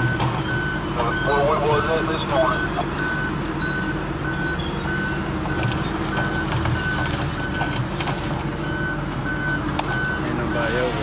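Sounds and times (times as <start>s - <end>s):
backup alarm beeping: 0.0s - 7.8s, 8.6s - 10.9s
heavy diesel engine rumble: 0.0s - 11.0s.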